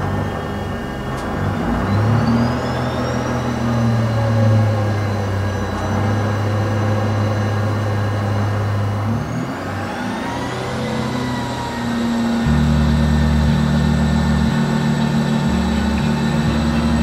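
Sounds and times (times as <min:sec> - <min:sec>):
low engine drone: 0:00.0 - 0:17.0
thin rising whine: 0:00.0 - 0:17.0.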